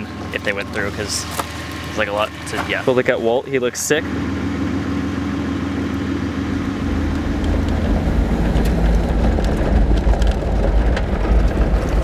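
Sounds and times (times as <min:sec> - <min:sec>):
tyres rumbling over dirt: 0:00.0 - 0:03.4, 0:04.1 - 0:12.0
vehicle engine running: 0:00.0 - 0:12.0.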